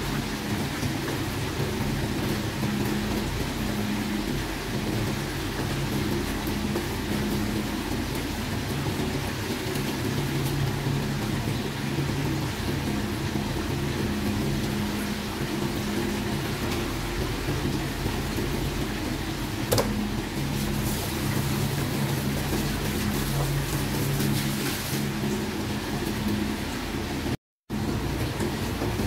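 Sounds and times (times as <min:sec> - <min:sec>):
hands rinsing vegetables: 0:00.0 - 0:26.5
tap water running into basin: 0:00.0 - 0:29.0.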